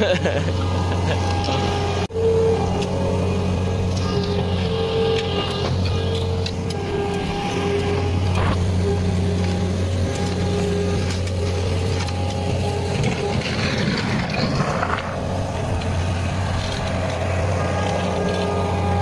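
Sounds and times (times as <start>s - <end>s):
machinery engine drone: 0.0s - 19.0s
rakes scraping gravel: 0.0s - 19.0s.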